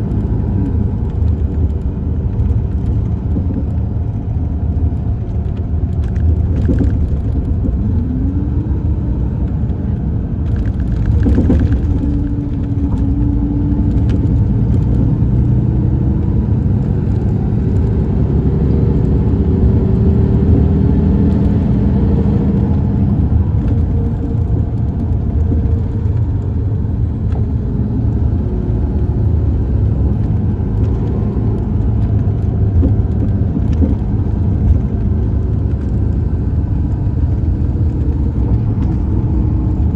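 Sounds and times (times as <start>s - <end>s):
diesel engine rumble: 0.0s - 39.9s
road noise: 0.0s - 39.9s.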